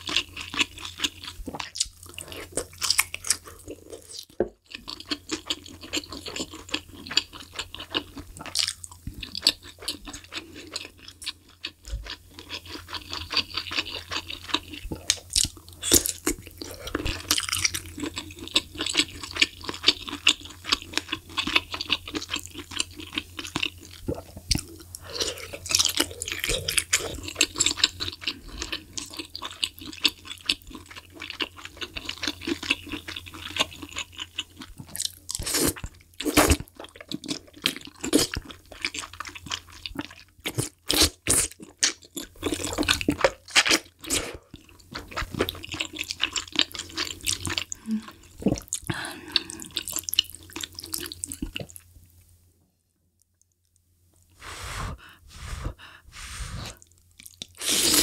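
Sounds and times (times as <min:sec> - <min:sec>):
close chewing of food: 0:00.0 - 0:52.2, 0:55.0 - 0:58.0.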